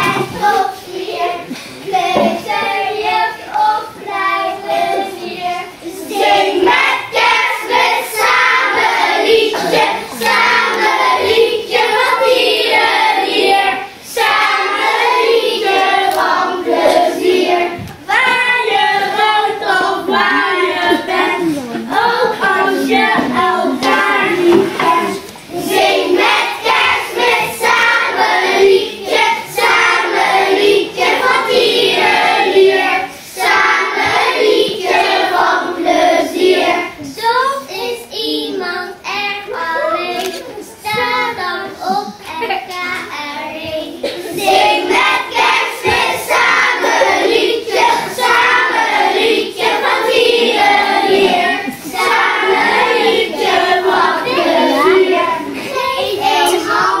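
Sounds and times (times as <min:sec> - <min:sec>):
young children singing: 0:00.0 - 0:57.0.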